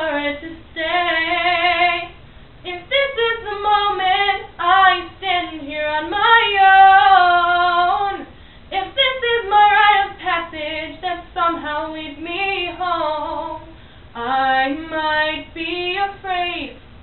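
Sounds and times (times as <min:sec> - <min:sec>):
woman singing a cappella: 0:00.0 - 0:16.9.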